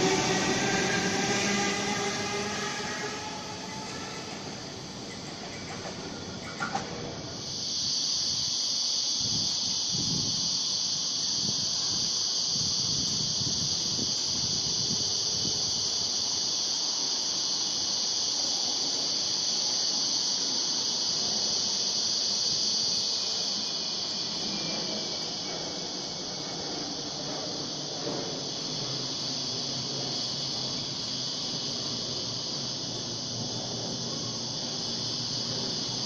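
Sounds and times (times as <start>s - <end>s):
cicada chorus: 0.0s - 36.0s.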